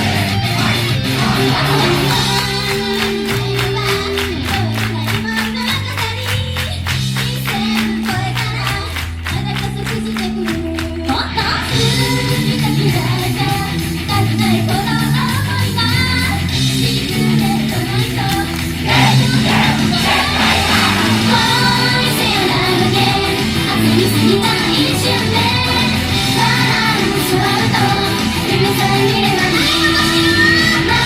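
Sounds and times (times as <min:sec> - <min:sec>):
pop song with female vocals: 0:01.3 - 0:31.0.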